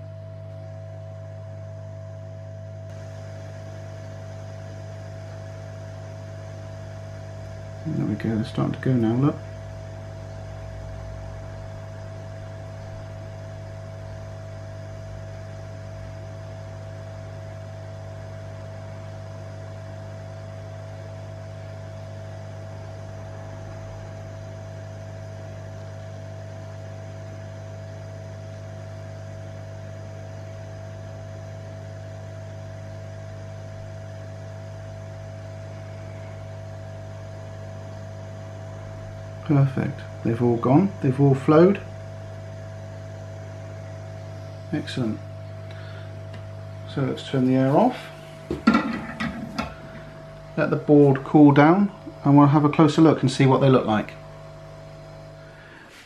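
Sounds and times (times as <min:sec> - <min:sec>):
hot air station blowing: 0:02.8 - 0:56.0.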